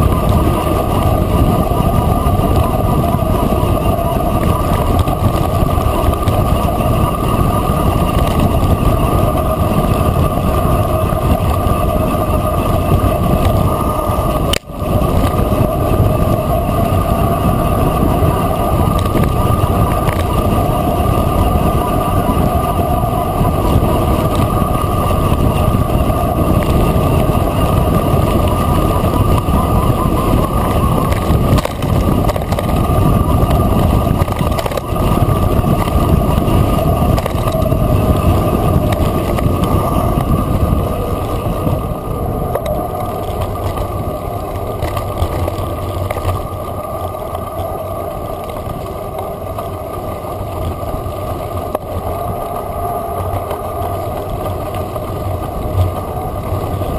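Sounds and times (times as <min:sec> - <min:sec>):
tyres rumbling over dirt: 0:00.0 - 0:56.9
wind buffeting microphone: 0:00.0 - 0:56.9.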